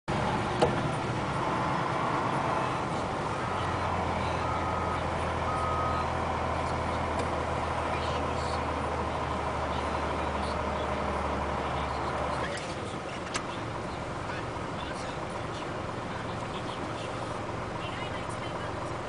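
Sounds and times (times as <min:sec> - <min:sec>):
wheel loader diesel engine running: 0:00.1 - 0:19.0.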